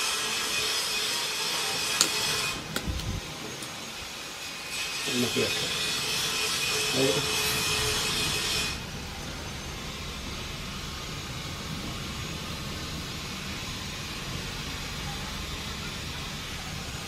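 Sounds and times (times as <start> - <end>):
low rumbling background noise: 1.2 - 17.0.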